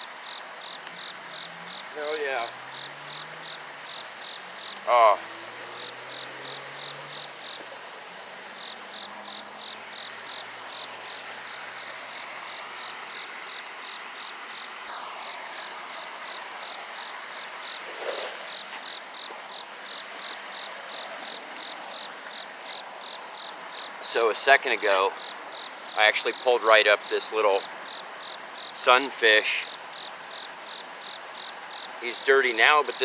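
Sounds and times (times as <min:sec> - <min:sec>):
insect chirping: 0:00.0 - 0:33.0.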